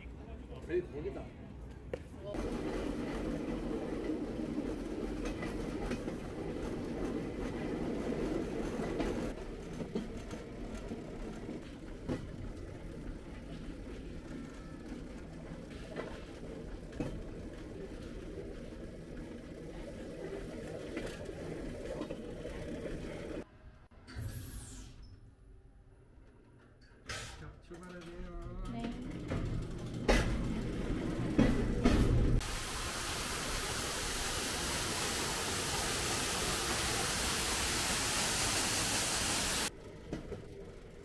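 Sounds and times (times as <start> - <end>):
wheels rumbling on rails: 2.2 - 23.5, 27.7 - 41.0.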